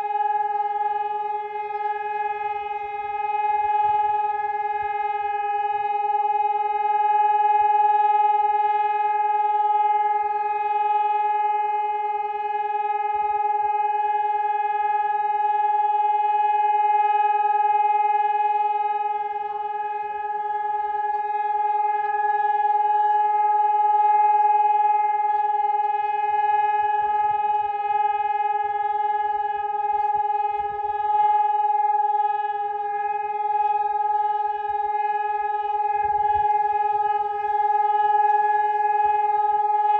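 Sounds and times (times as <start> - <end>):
electronic siren steady tone: 0.0 - 39.9.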